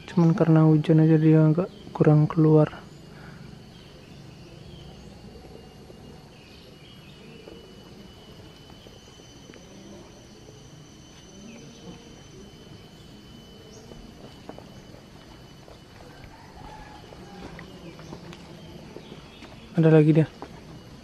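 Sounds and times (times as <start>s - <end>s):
fainter higher tone: 0.0s - 21.0s
high-pitched insect trill: 0.0s - 21.0s
quiet outdoor background noise: 0.0s - 21.0s.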